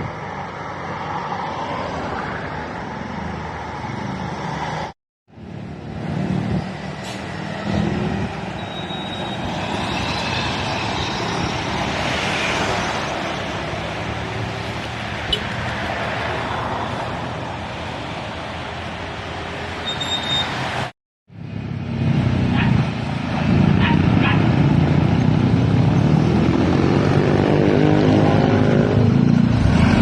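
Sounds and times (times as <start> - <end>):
passing vehicle engine and tyres: 0.0 - 30.0.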